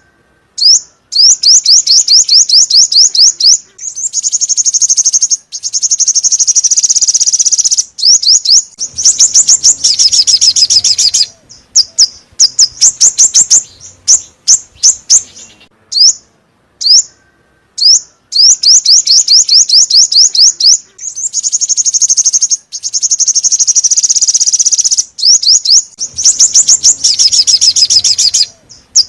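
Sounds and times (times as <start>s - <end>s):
songbird chip notes: 0.0s - 29.0s.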